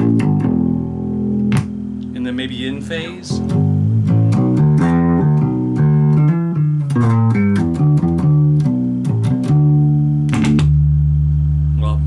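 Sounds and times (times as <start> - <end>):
electric bass plucked notes: 0.0 - 12.0.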